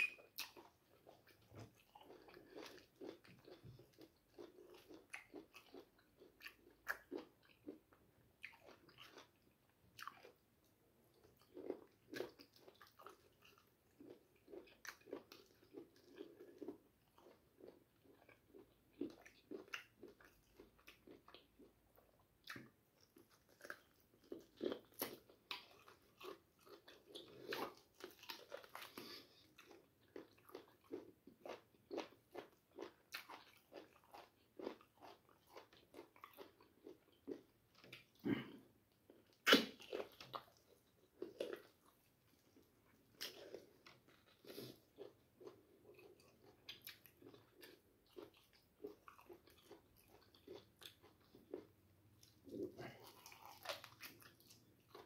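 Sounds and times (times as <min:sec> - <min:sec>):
man chewing meat: 0:00.0 - 0:10.5, 0:11.1 - 0:55.0.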